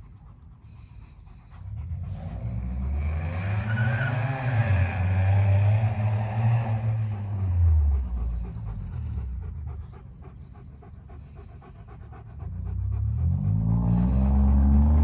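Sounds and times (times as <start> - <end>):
dog panting rapidly: 0.0 - 3.5, 6.3 - 15.0
low engine rumble: 0.0 - 15.0.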